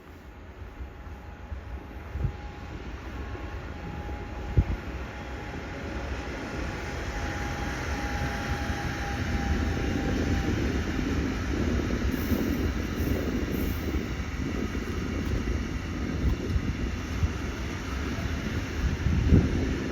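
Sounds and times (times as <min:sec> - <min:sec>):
train rumbling: 0:00.0 - 0:19.9.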